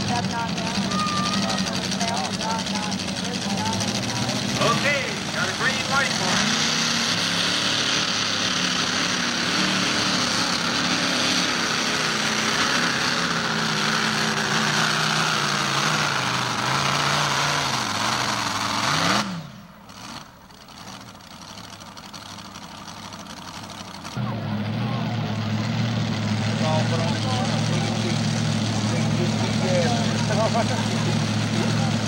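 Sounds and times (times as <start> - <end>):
engine rev: 0.0 - 32.0
quiet engine rumble: 0.0 - 32.0
tractor engines running flat out: 0.0 - 32.0.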